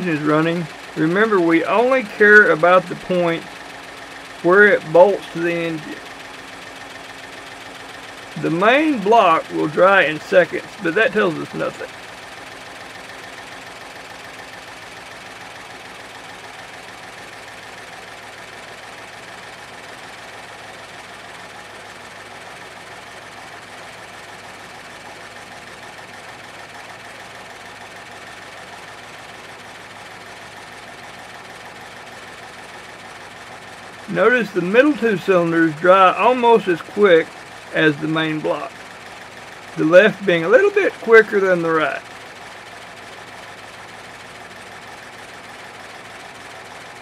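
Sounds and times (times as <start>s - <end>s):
engine idling unevenly: 0.0s - 47.0s.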